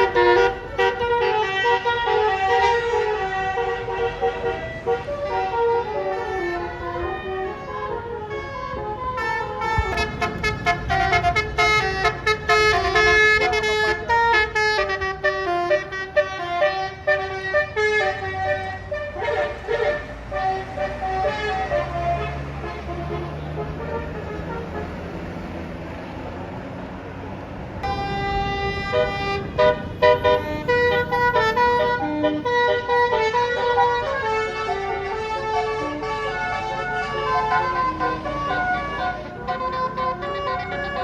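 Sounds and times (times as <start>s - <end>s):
bus multi-tone horn melody: 0.0s - 25.8s, 27.8s - 41.0s
bus engine rumbling: 0.0s - 41.0s.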